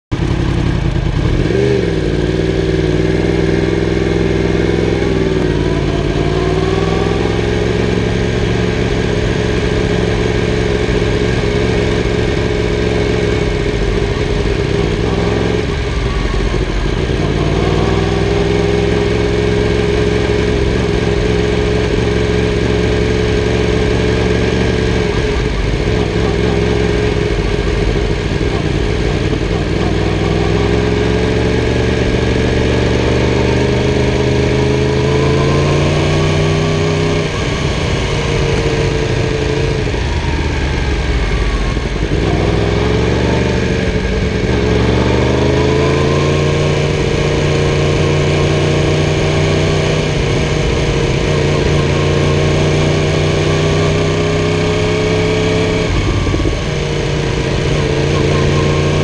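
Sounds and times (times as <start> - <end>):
motorcycle engine at low revs: 0.0 - 59.0.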